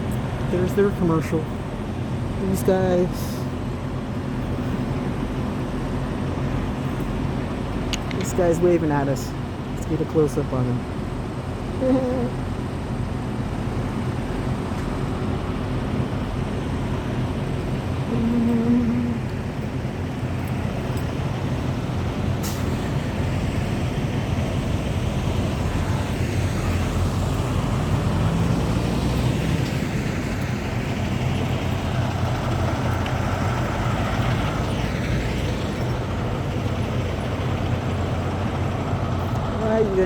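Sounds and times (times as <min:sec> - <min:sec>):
diesel truck engines running: 0:00.0 - 0:40.0.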